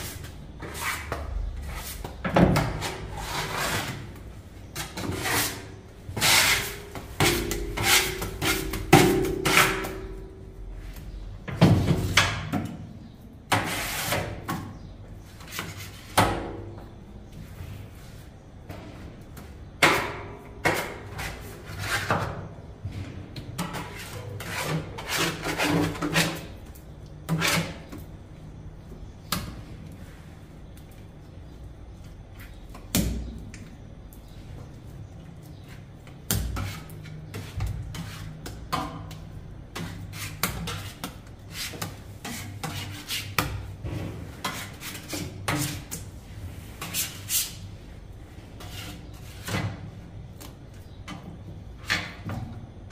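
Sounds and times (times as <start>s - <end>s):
knocks and scrapes of tools: 0.0s - 28.2s, 35.5s - 47.7s, 48.4s - 52.7s.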